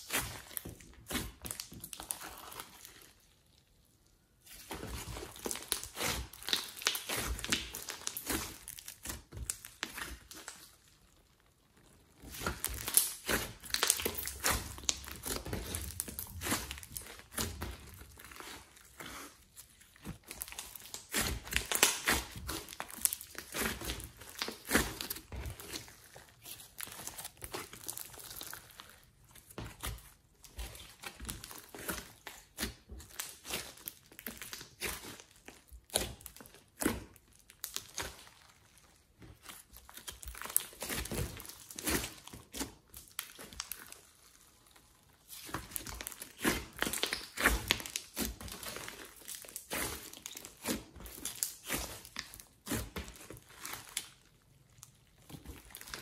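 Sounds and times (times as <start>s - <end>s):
hands squishing slime: 0.0s - 56.0s.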